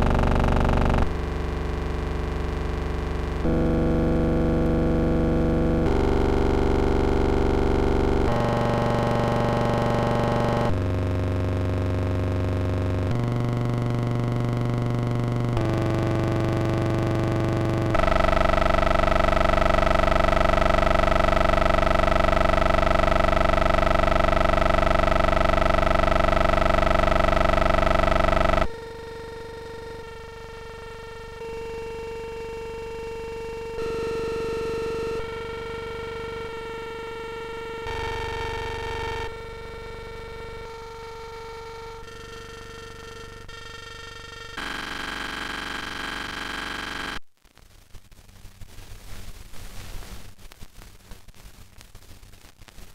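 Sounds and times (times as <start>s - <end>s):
loud pulsing tone: 0.0s - 47.2s.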